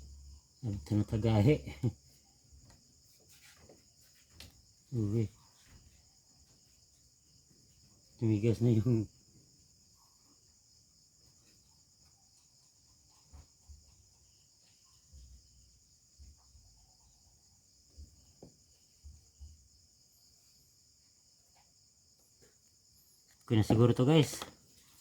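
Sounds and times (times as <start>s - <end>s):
crickets chirping faintly: 0.0s - 25.0s.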